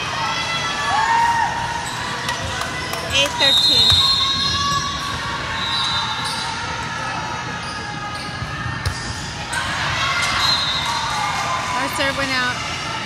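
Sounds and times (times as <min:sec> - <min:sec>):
hubbub of voices: 0:00.0 - 0:13.0.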